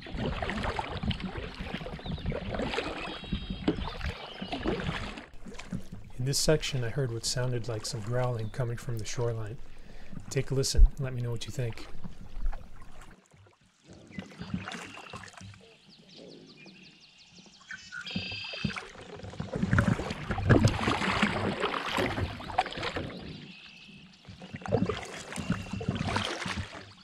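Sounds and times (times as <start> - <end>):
paddle strokes splashing water: 0.0 - 16.0, 17.4 - 27.0.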